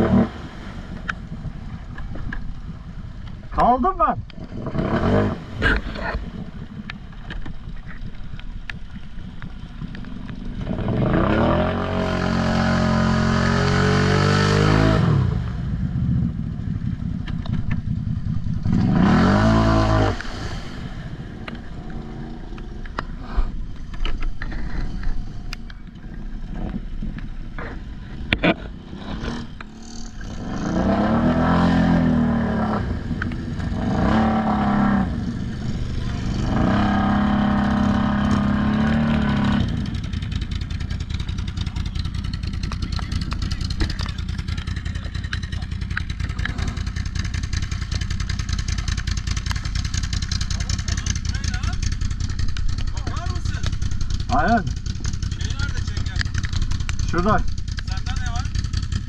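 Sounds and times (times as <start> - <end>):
atv engine revving: 0.0 - 7.4, 9.3 - 23.2, 26.4 - 59.0.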